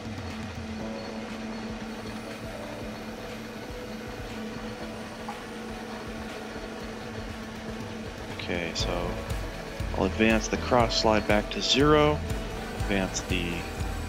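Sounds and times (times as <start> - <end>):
metal lathe motor humming: 0.0 - 14.0.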